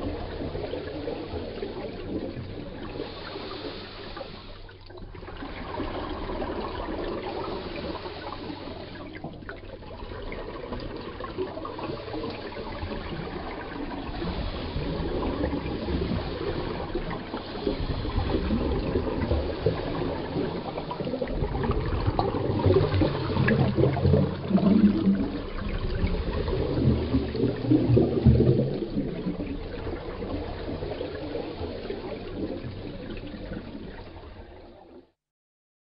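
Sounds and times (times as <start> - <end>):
underwater breath bubbling: 0.0 - 34.9.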